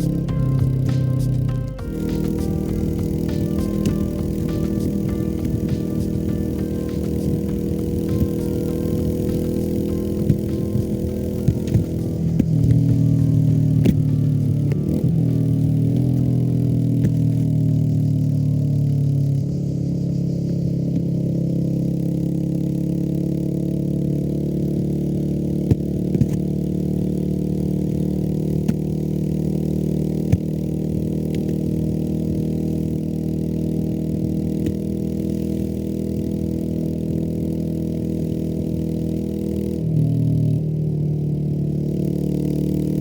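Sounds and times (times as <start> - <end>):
motorcycle engine running steadily: 0.0 - 43.0.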